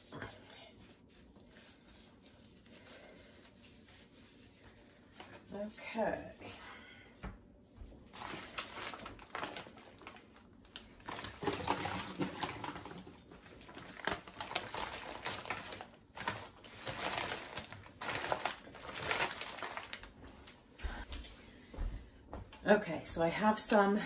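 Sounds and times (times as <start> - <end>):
paper towel crinkling: 0.0 - 6.6, 7.8 - 20.7.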